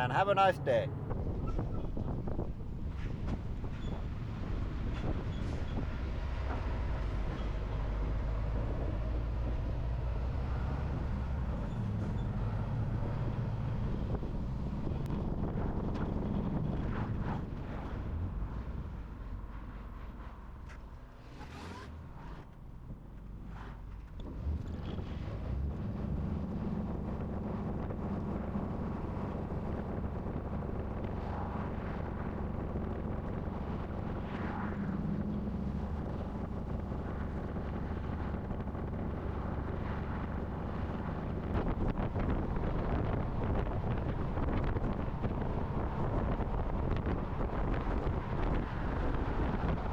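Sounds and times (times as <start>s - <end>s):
heavy truck driving: 0.0s - 49.9s
wind buffeting microphone: 0.9s - 19.5s, 24.3s - 49.9s.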